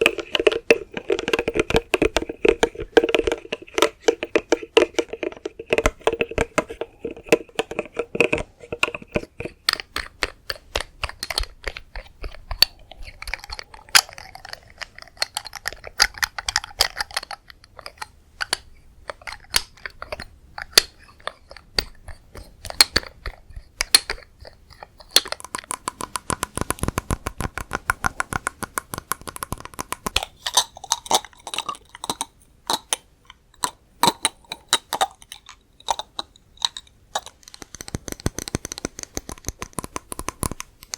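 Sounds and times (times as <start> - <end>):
rapid tapping on hard objects: 0.0 - 40.9.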